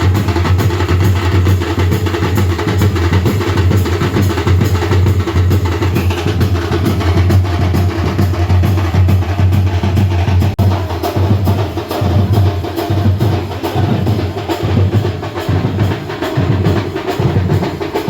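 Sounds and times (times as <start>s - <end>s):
drum-led music: 0.0s - 18.0s.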